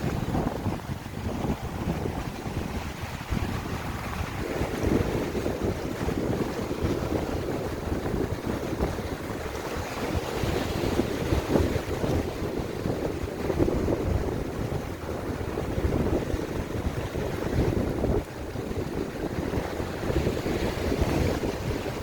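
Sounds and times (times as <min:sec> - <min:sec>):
sea waves washing on shore: 0:00.0 - 0:22.0
wind buffeting microphone: 0:00.0 - 0:22.0.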